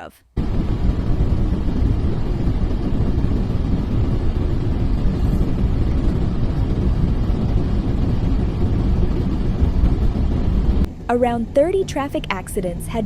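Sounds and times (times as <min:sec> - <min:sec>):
wind buffeting microphone: 0:00.4 - 0:13.0.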